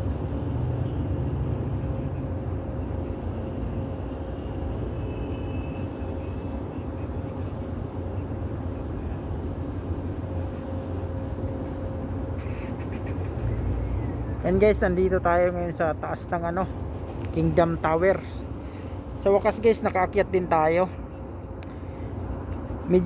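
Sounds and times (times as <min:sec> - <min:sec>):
road traffic rumble: 0:00.0 - 0:23.0
faint steady hum: 0:01.2 - 0:23.0.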